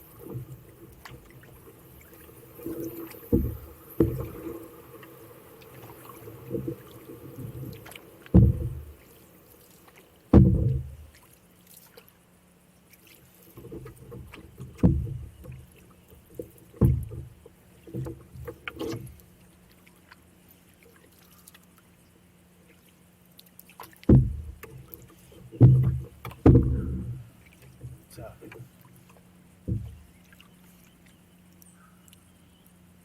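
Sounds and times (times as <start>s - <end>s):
canoe paddle strokes knocking hull: 0.0s - 12.1s, 13.0s - 20.2s, 23.7s - 31.2s.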